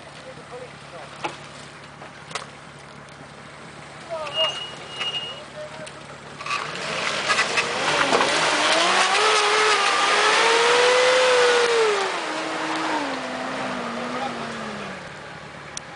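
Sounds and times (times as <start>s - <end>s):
off-road vehicle engine revving: 0.0s - 15.9s.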